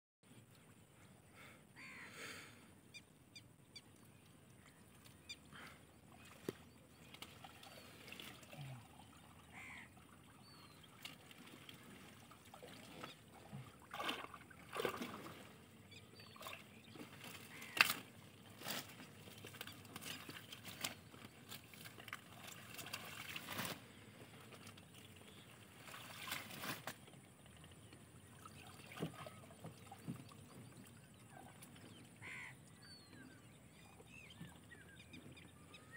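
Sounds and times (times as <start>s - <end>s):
water sloshing and trickling: 3.8s - 35.9s.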